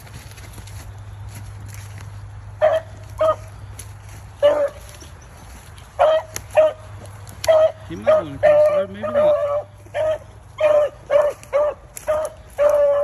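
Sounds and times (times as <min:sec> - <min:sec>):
dogs baying: 0:02.5 - 0:13.0.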